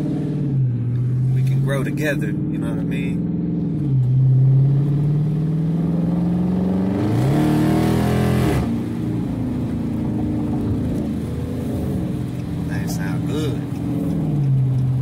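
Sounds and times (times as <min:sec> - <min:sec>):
car exhaust revving: 0:00.0 - 0:15.0.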